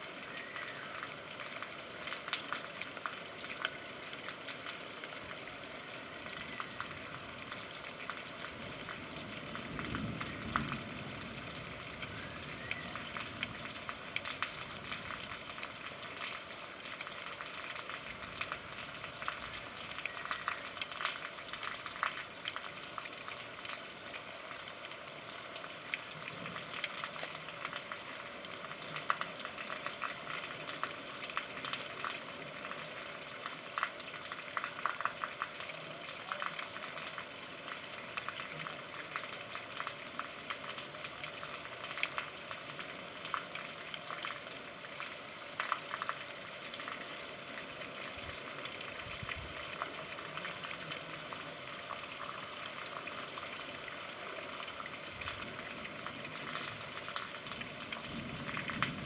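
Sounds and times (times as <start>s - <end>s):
rain drops striking a surface: 0.0s - 59.0s.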